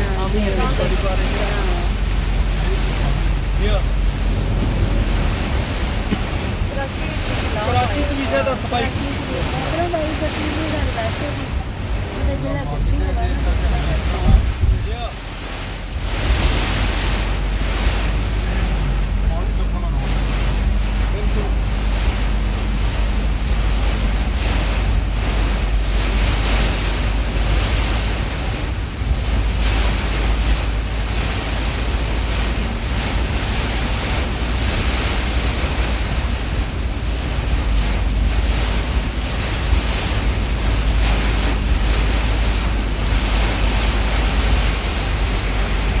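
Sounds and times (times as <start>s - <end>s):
heavy rain: 0.0s - 46.0s
wind rumbling on microphone: 0.0s - 46.0s.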